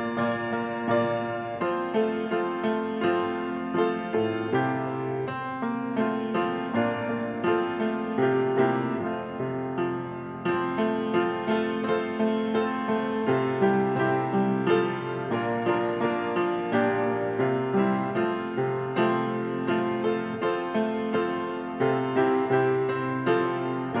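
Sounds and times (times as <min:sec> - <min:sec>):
solo piano music: 0:00.0 - 0:24.0.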